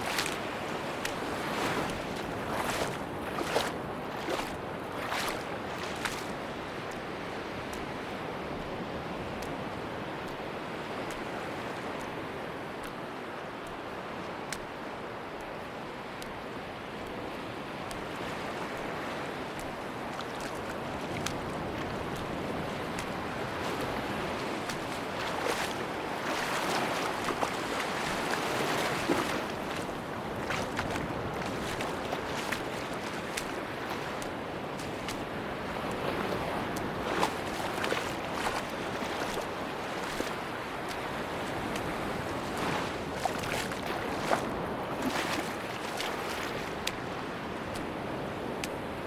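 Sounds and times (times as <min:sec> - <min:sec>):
waves washing onto beach: 0:00.0 - 0:49.0.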